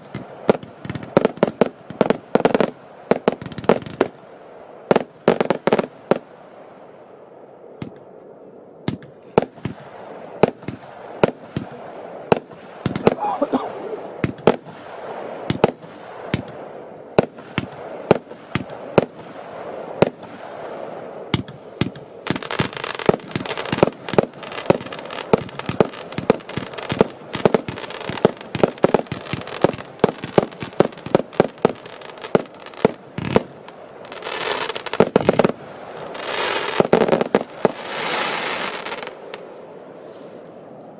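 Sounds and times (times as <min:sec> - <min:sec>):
firework shots and bursts: 0:00.0 - 0:06.4, 0:08.8 - 0:39.5
crackling firework hiss: 0:00.0 - 0:06.8, 0:08.9 - 0:40.9.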